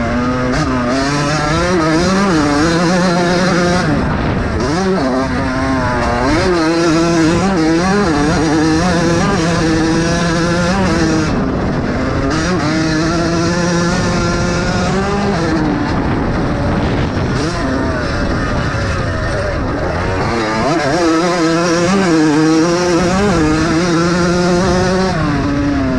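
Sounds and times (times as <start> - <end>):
motocross bike engines revving: 0.0 - 25.9.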